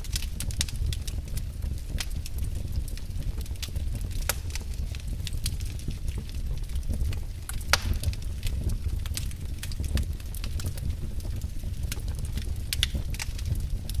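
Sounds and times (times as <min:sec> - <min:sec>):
fireplace fire crackling and popping: 0:00.0 - 0:14.0
low steady fire rumble: 0:00.0 - 0:14.0.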